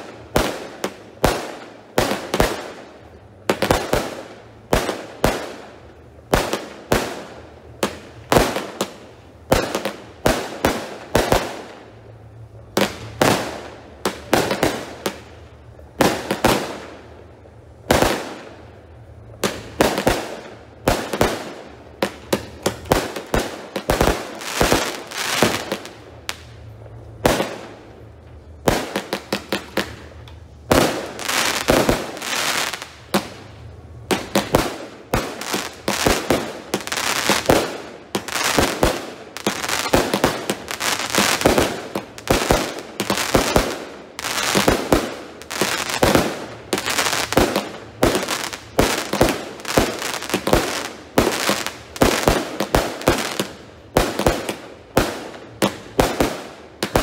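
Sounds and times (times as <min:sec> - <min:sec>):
fireworks bangs: 0:00.0 - 0:16.9, 0:17.5 - 0:57.0.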